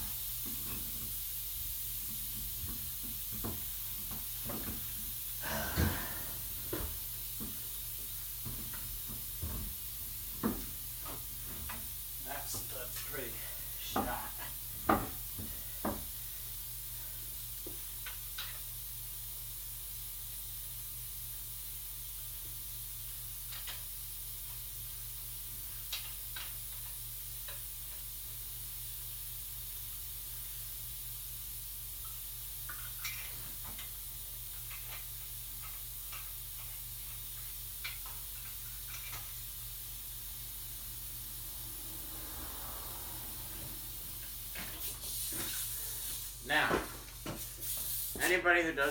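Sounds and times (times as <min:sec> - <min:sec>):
low hum and hiss: 0:00.0 - 0:48.9.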